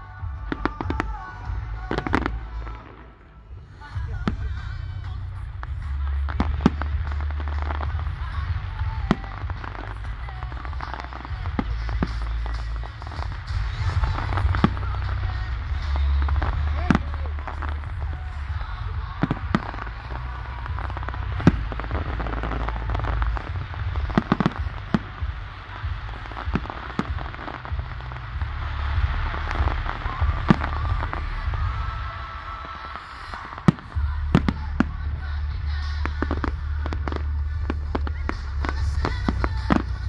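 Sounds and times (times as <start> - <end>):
fireworks bangs and crackles: 0.0 - 40.0
low rumble: 0.0 - 40.0.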